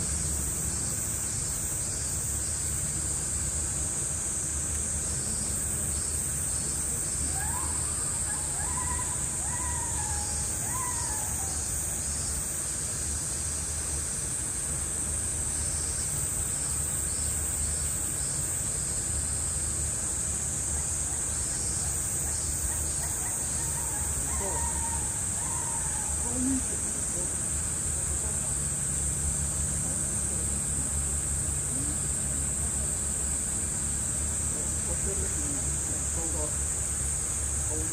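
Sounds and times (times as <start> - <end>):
cicadas shrilling: 0.0 - 37.9
low outdoor rumble: 0.0 - 37.9.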